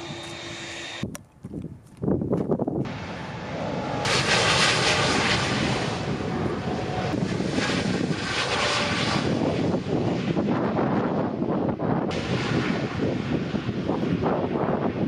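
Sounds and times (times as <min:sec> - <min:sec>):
jet engines roaring: 0:00.0 - 0:01.0, 0:02.8 - 0:15.0.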